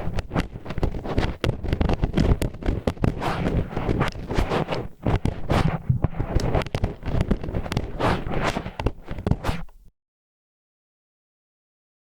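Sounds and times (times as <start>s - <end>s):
sharp clicks and scratches: 0.0s - 9.9s.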